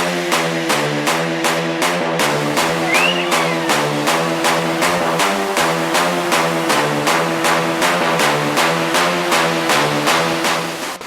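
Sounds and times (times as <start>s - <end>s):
held synth chords: 0.0s - 10.8s
music with steady beat: 0.0s - 11.0s.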